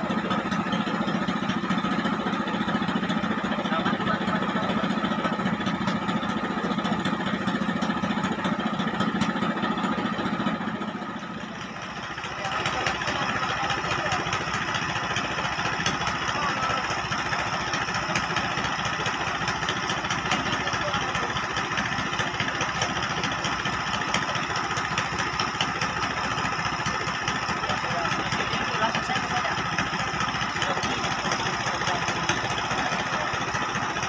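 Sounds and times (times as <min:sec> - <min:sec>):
boat engine chugging: 0:00.0 - 0:34.0.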